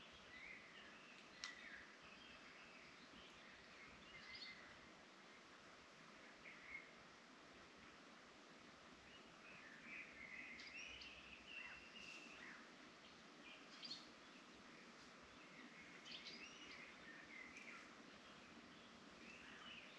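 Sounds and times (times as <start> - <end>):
faint birdsong: 0.0 - 19.9
low background hiss: 0.0 - 19.9.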